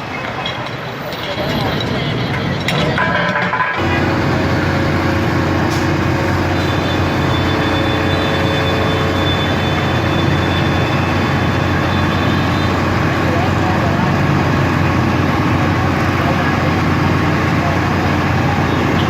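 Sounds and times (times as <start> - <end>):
large vehicle engine droning: 0.0 - 19.0.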